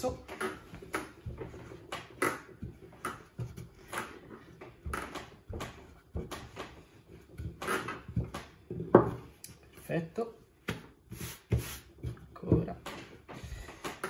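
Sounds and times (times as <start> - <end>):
rolling pin rolling dough: 0.0 - 14.0.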